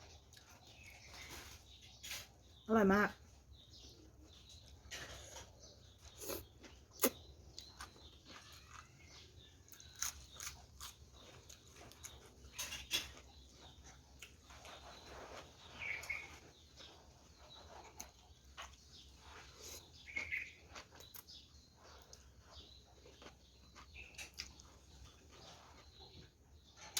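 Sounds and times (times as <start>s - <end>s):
person chewing crunchy food: 4.4s - 26.9s.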